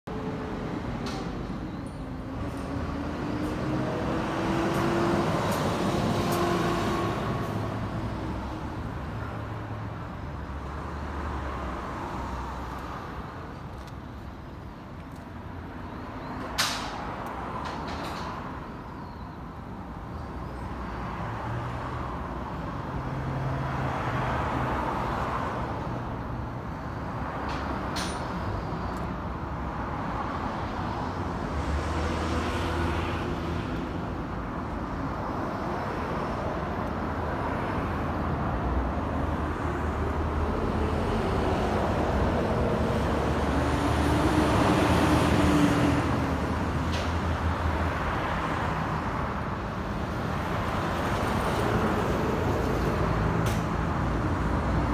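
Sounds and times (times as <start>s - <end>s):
road traffic passing: 0.0s - 54.9s.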